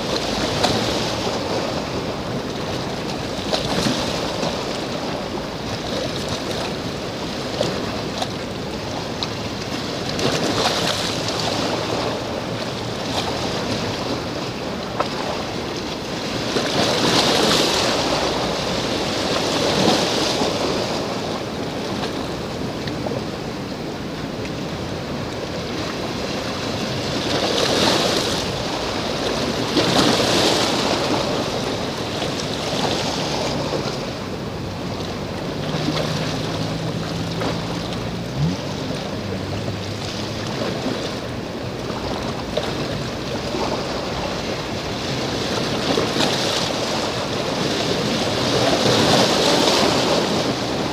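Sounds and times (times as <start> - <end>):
sea waves washing on shore: 0.0 - 50.9.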